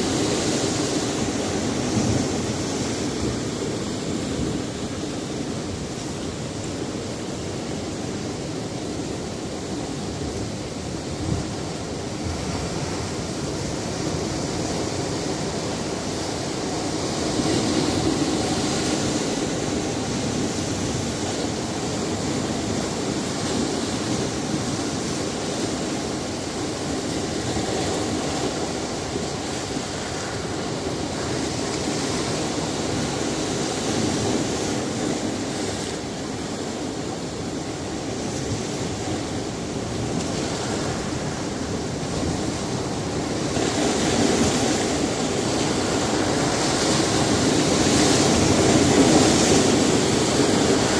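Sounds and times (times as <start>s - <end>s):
surf breaking on rocky shore: 0.0s - 50.9s.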